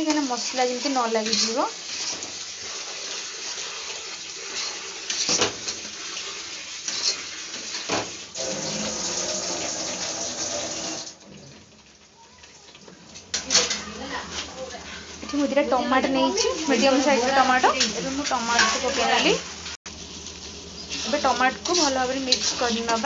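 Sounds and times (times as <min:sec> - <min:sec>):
wooden spatula scraping a pan: 0:00.0 - 0:10.6, 0:13.1 - 0:23.0
masala sizzling in a wok: 0:00.0 - 0:23.0.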